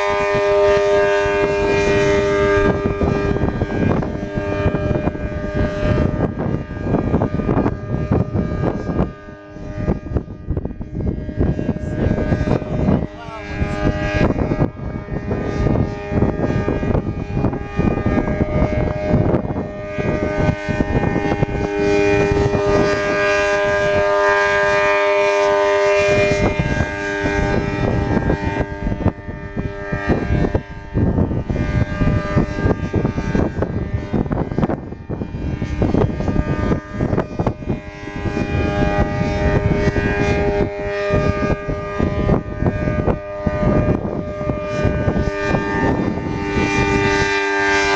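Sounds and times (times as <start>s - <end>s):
outdoor warning siren steady tone: 0.0s - 47.9s.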